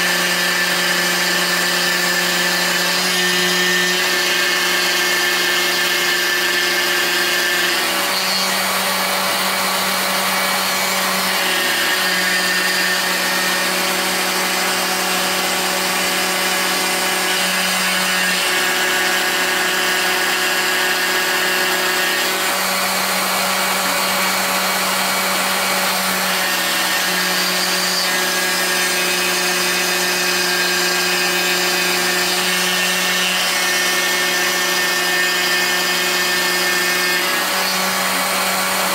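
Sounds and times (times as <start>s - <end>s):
rotary tool milling wood: 0.0s - 38.9s.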